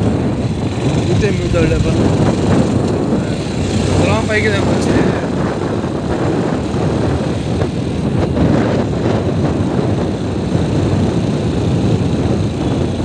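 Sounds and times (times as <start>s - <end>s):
vehicle engine and road noise: 0.0s - 13.0s
wind on microphone: 0.0s - 13.0s.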